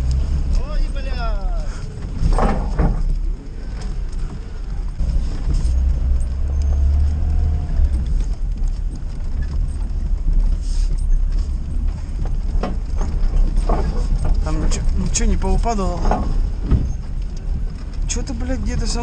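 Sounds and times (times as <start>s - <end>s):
car driving low rumble: 0.0s - 19.0s
knocks and rattles: 0.0s - 19.0s.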